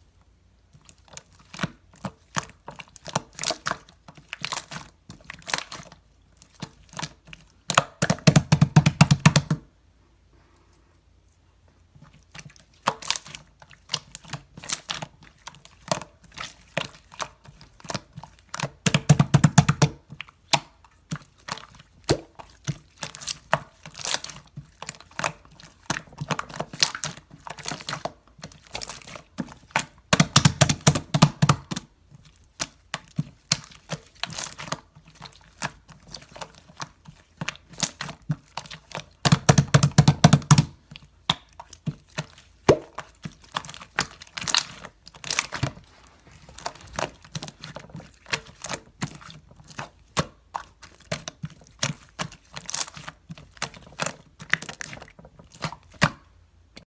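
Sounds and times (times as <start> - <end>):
slime squelching: 0.6 - 9.6, 11.2 - 56.9.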